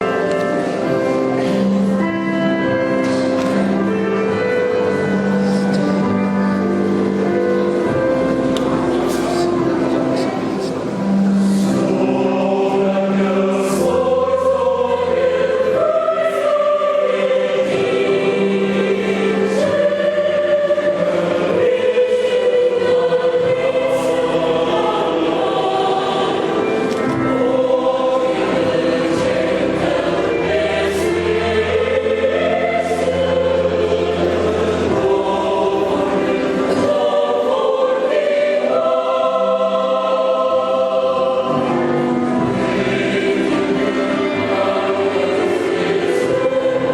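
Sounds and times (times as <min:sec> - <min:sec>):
choir singing in parts: 0:00.0 - 0:46.9.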